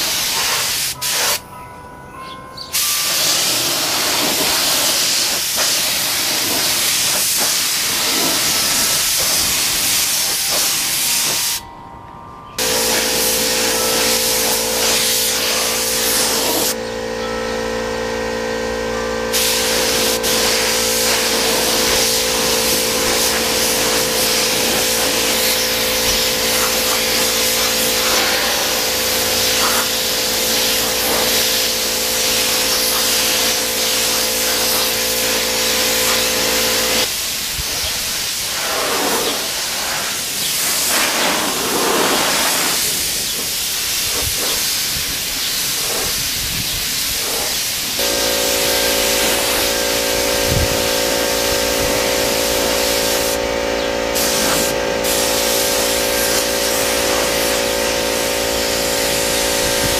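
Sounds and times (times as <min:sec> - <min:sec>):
spray gun hissing: 0:00.0 - 0:01.4, 0:02.7 - 0:11.6, 0:12.6 - 0:16.8, 0:19.3 - 0:59.9.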